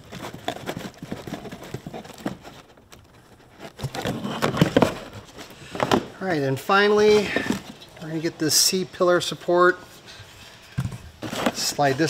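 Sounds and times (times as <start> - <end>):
rustling cardboard: 0.0 - 9.3, 9.9 - 12.0.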